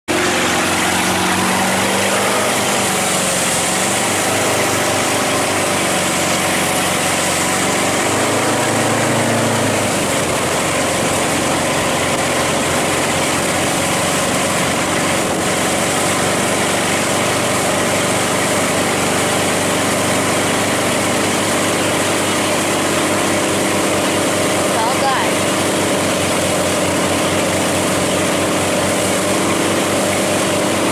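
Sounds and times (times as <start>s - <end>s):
churning wake water: 0.1s - 30.9s
motorboat engine running: 0.1s - 30.9s.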